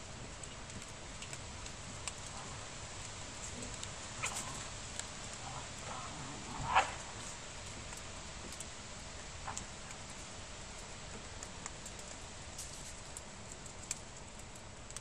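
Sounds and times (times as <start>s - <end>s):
paws pattering on snow: 0.0s - 15.0s
steady low hiss: 0.0s - 15.0s.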